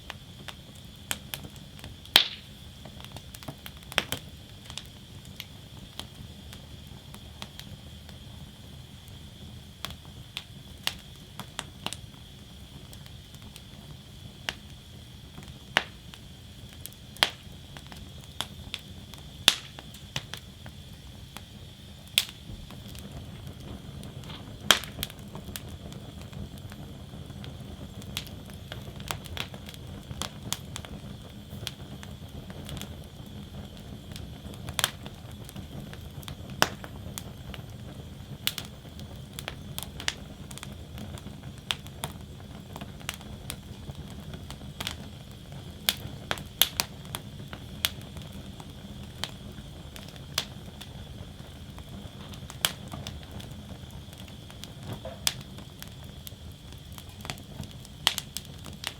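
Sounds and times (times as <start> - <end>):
low rumble and hiss of flames: 0.0 - 58.9
wood fire crackling: 0.0 - 58.9.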